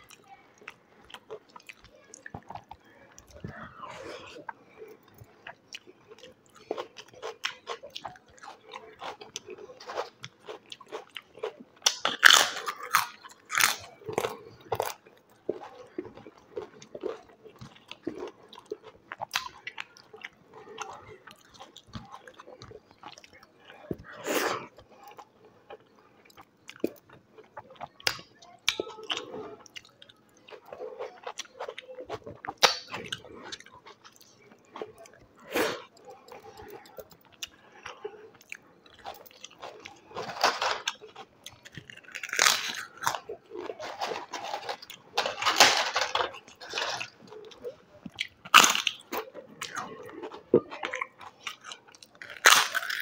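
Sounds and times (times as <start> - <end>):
person chewing crisp food: 0.0 - 53.0.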